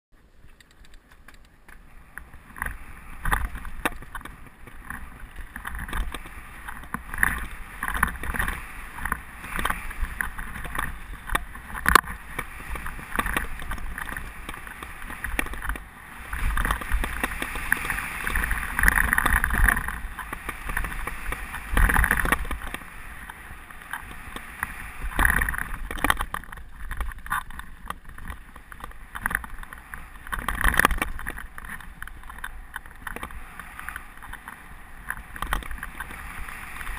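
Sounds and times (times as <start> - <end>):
bike rattling: 0.2 - 36.9
wind rushing over microphone: 0.4 - 36.9
sharp knocks over bumps: 0.6 - 36.2
tyres rumbling on dirt: 1.0 - 36.9.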